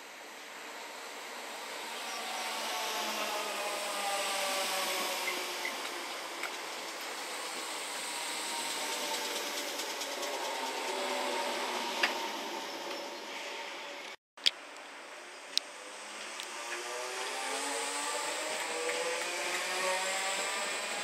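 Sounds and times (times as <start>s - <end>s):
wheels rushing on rails: 0.0s - 14.2s, 15.2s - 21.0s
electric train motors whining: 0.2s - 14.2s, 16.0s - 21.0s.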